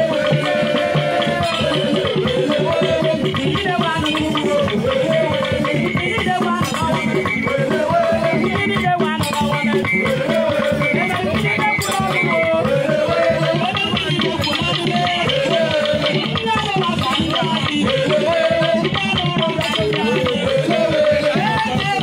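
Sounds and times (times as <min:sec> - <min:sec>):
shaken rattles and percussion: 0:00.0 - 0:22.0
voices singing: 0:00.0 - 0:22.0.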